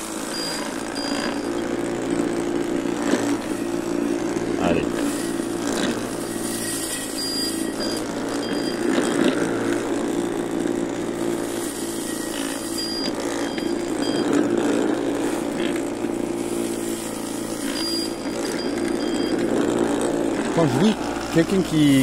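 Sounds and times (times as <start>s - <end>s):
electric mower motor humming: 0.0s - 22.0s
short high whines: 0.0s - 22.0s.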